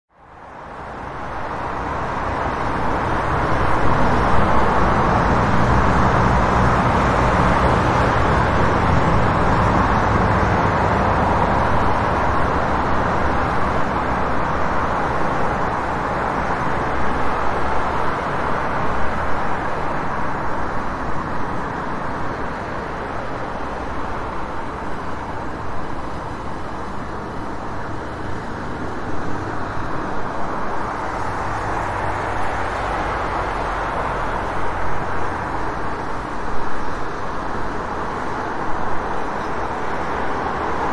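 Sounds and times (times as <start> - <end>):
passing car traffic: 0.1 - 40.9.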